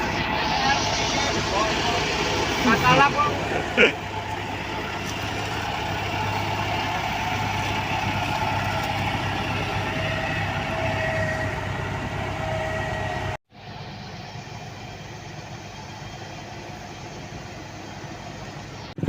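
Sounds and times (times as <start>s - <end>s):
faint whine: 0.0s - 19.0s
paving machinery engine drone: 0.0s - 19.0s.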